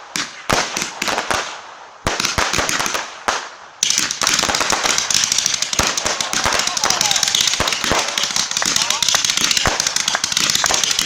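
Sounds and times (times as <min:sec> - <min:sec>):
fireworks sharp bangs: 0:00.0 - 0:11.0
rapid firework crackling: 0:00.0 - 0:11.0.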